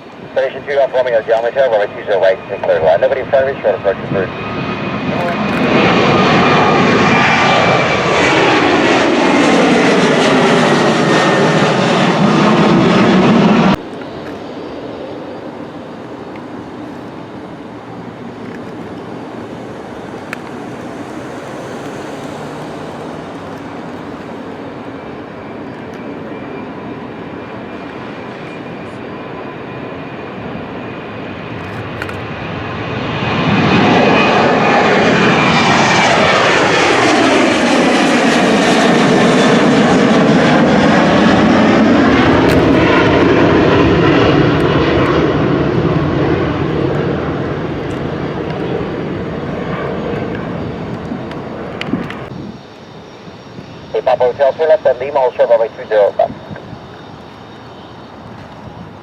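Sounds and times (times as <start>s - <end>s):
jet aircraft passing: 0.0s - 59.0s
steady aircraft engine noise: 0.0s - 59.0s.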